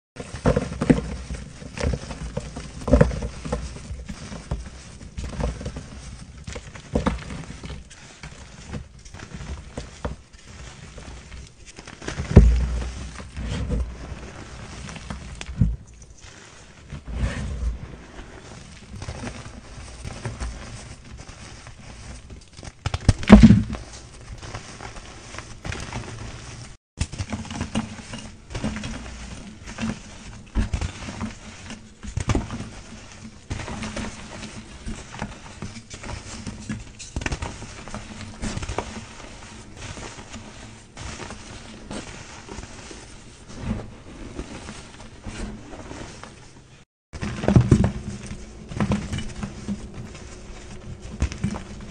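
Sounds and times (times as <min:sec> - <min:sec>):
hands crushing chalk powder: 0:00.2 - 0:45.0.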